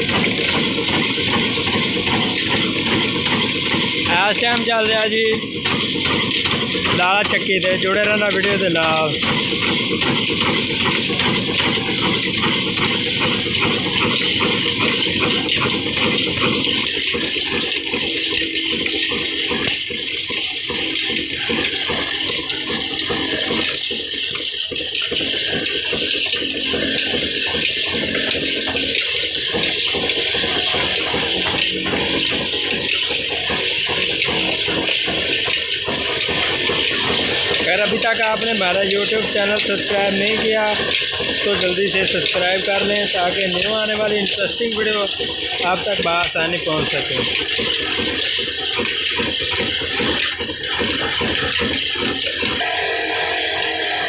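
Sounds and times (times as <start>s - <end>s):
diesel engine clattering: 0.0s - 52.9s.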